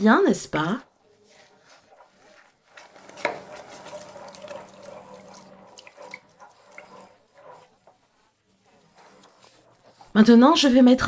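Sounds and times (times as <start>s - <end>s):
wooden spoon stirring sauce: 0.3s - 11.0s
milk pouring into saucepan: 1.1s - 10.2s.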